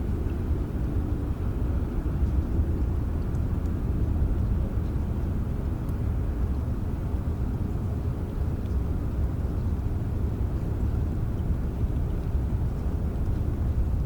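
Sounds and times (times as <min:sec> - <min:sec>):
faint water drips: 0:00.0 - 0:14.0.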